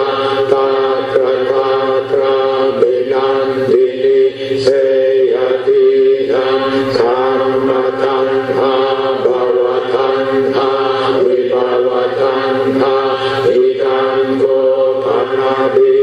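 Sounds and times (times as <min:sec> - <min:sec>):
men chanting in monotone: 0:00.0 - 0:16.0.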